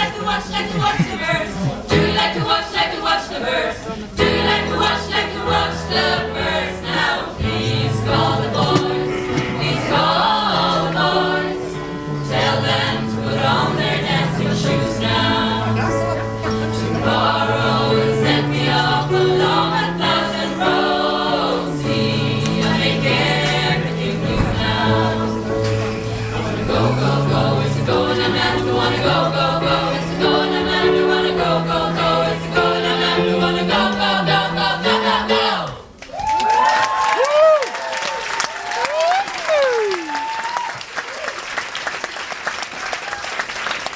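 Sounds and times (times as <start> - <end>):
choir singing in harmony: 0.0 - 36.0.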